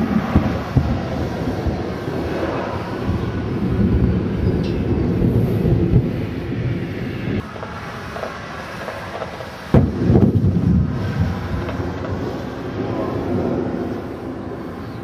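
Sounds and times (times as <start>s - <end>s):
sharp thunder crack: 0.0s - 7.4s, 9.0s - 14.7s
thunder rumbling: 0.0s - 15.0s.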